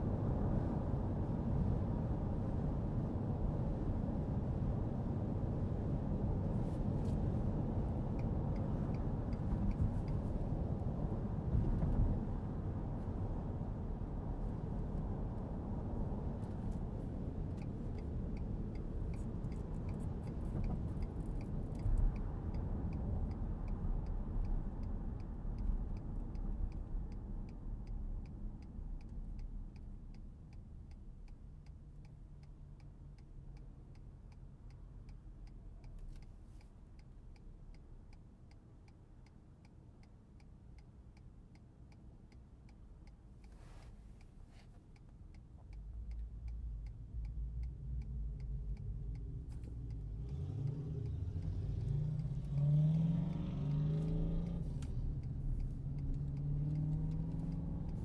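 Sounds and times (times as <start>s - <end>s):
engine and road rumble: 0.0s - 58.0s
turn signal ticking: 6.5s - 12.3s, 14.2s - 58.0s.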